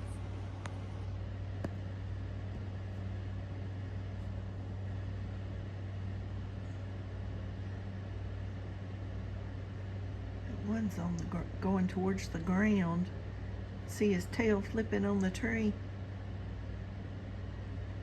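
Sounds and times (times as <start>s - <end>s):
appliance hum: 0.0s - 18.0s.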